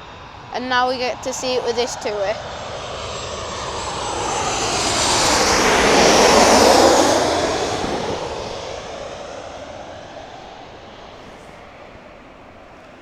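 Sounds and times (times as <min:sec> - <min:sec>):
jet airliner flying past: 0:00.0 - 0:13.0.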